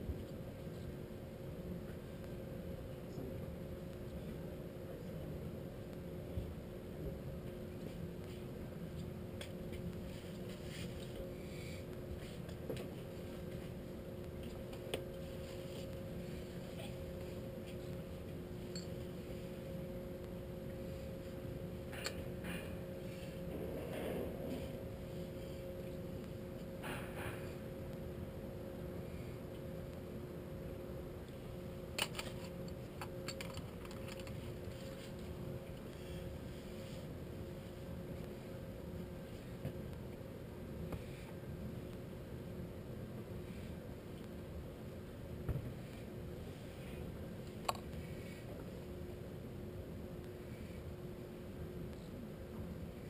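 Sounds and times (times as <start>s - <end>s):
faint steady tone: 0.0s - 53.0s.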